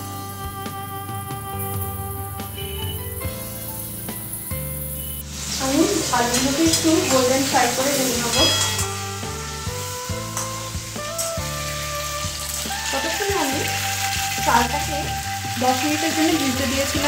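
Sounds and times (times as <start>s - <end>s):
background music: 0.0s - 17.0s
potatoes sizzling in oil: 2.9s - 17.0s.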